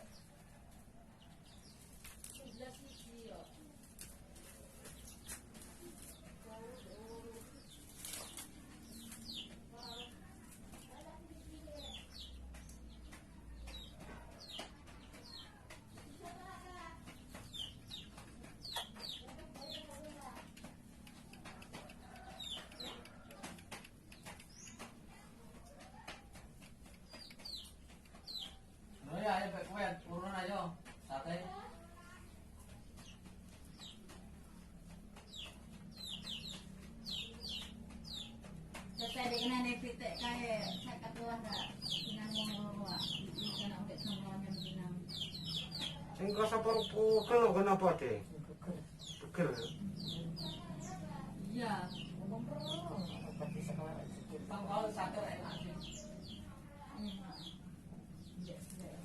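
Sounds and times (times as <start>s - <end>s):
chickens chirping: 0.0s - 59.0s
chickens clucking: 0.0s - 59.0s.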